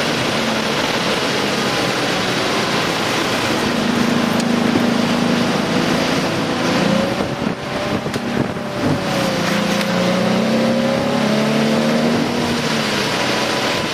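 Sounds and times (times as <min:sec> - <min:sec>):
race car engines passing: 0:00.0 - 0:13.9.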